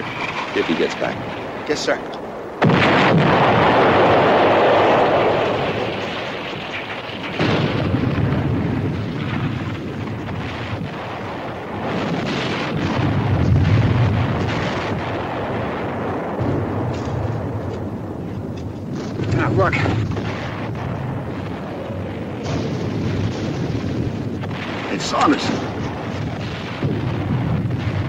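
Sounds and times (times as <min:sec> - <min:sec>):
low rumbling of shelling: 0:00.0 - 0:28.0
shell explosion: 0:02.6 - 0:28.0.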